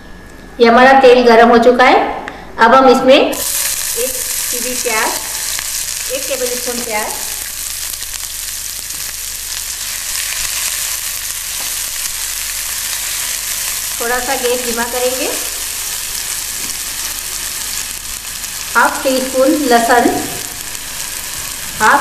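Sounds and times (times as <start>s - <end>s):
onion sizzling in hot oil: 3.3s - 22.0s.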